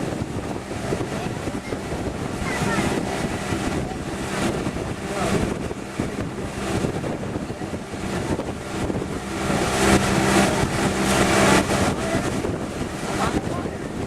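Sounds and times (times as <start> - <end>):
motorboat engine running: 0.0 - 14.0
water rushing past: 0.0 - 14.0
wind buffeting microphone: 0.0 - 14.0.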